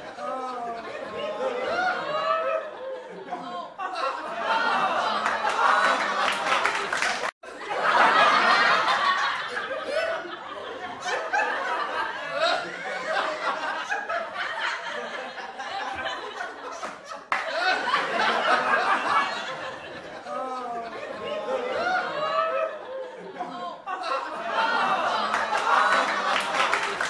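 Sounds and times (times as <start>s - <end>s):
people laughing and talking: 0.0s - 6.9s, 7.5s - 27.0s.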